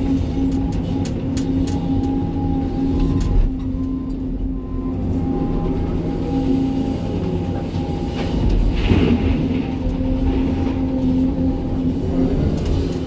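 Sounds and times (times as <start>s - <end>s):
excavator engine and hydraulics: 0.0s - 13.0s.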